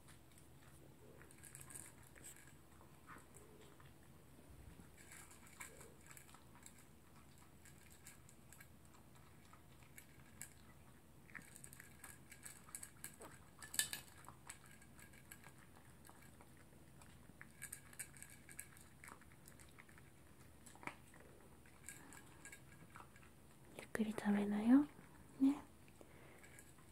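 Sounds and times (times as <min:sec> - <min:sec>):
dog chewing food: 0:00.0 - 0:24.0.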